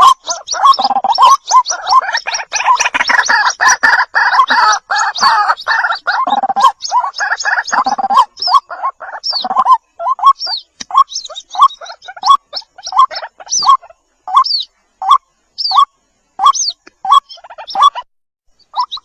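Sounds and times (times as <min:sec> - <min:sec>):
bird chicks calling: 0:00.0 - 0:19.0.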